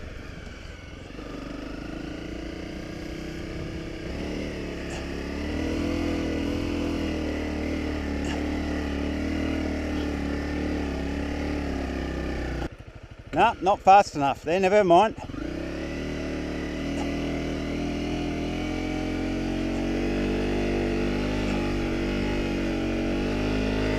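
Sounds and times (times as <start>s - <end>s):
motorcycle engine in sand: 0.0s - 23.9s.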